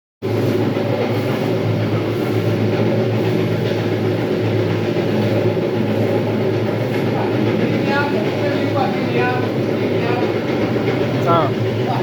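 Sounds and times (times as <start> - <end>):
floor grinder motor hum: 0.2 - 12.0.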